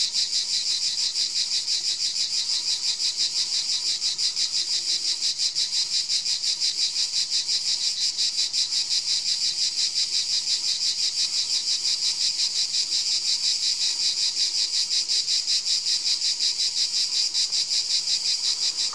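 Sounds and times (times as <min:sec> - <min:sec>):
insects chirping trill: 0:00.0 - 0:18.9.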